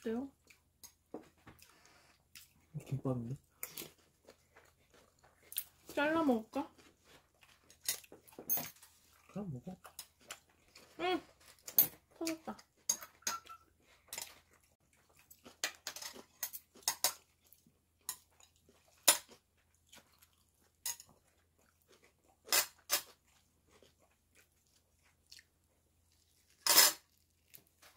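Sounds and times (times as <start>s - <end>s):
chewing: 0.3s - 6.0s, 6.6s - 27.9s.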